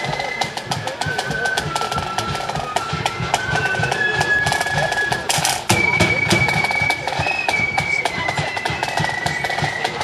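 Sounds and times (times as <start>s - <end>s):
drum beats: 0.0s - 10.0s
marching band melody: 0.0s - 10.0s.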